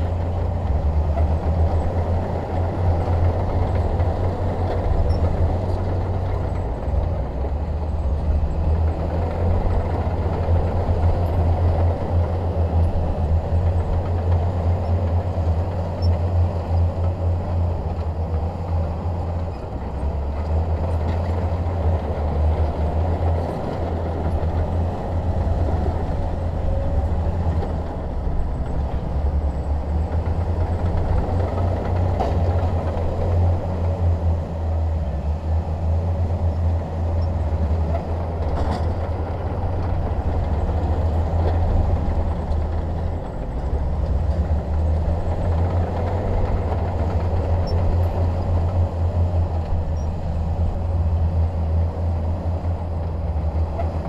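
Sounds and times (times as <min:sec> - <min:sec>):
diesel machinery engine rumble: 0:00.0 - 0:54.0.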